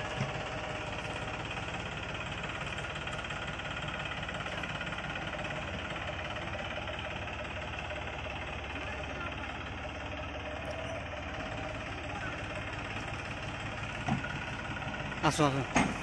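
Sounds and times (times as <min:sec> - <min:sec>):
tractor diesel engine knocking: 0:00.0 - 0:16.0.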